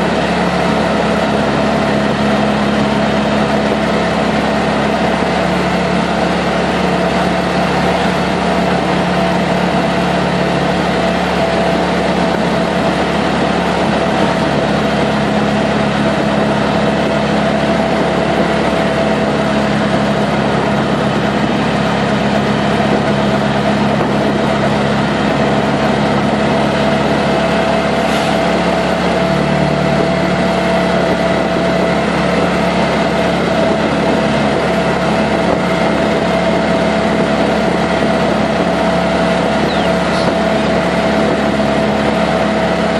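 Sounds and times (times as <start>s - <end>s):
auto-rickshaw engine droning: 0.0s - 42.9s
road noise: 0.0s - 42.9s.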